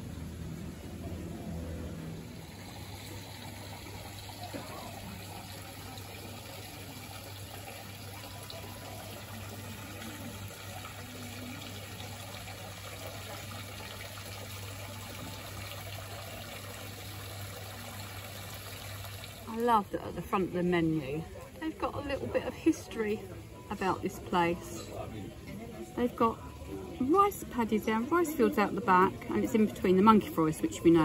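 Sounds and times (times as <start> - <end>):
water feature trickling into pond: 0.0 - 31.0.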